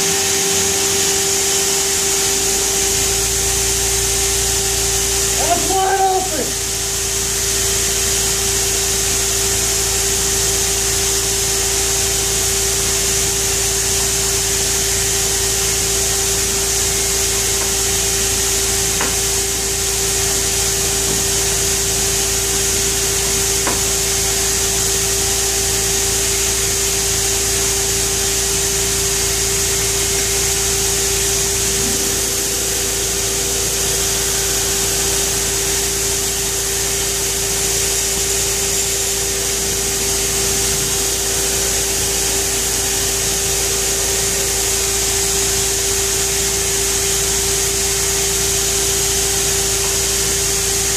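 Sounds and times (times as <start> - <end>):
motor hum: 0.0 - 50.9.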